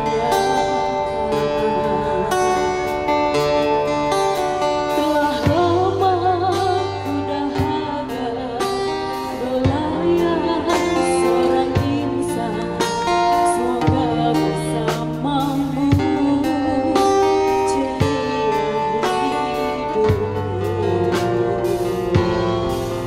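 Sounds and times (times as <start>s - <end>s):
strummed guitar: 0.0s - 23.0s
woman singing into microphone: 0.0s - 23.0s.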